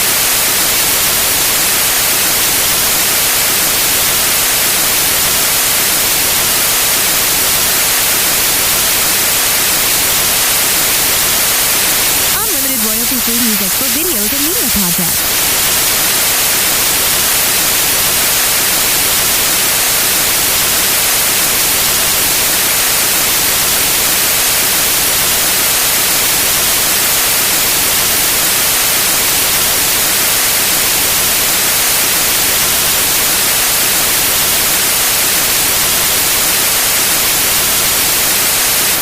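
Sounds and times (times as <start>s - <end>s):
white noise hiss: 0.0s - 39.0s.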